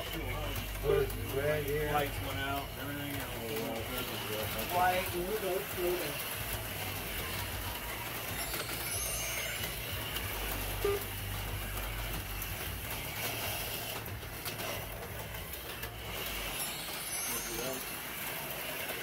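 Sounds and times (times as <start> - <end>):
slot car motors whirring: 0.0 - 19.0.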